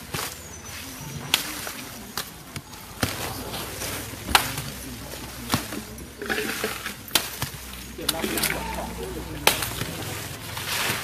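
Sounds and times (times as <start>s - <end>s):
blade chopping branches: 0.0s - 11.0s.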